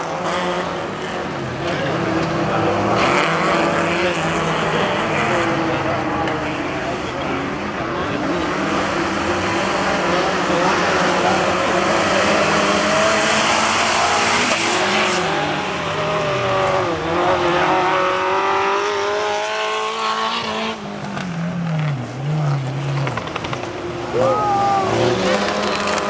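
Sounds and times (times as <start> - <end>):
car engines revving hard: 0.0 - 26.0.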